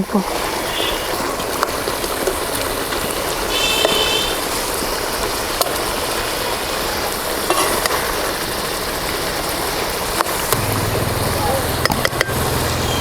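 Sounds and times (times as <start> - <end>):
sauce sizzling in a pot: 0.0 - 13.0.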